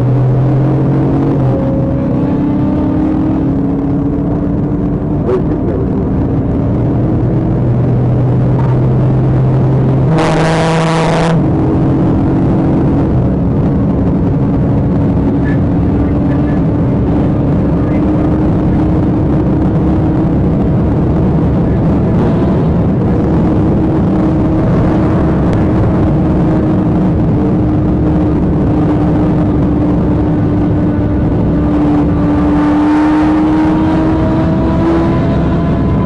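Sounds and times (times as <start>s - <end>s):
police car engine and road noise: 0.0s - 36.0s.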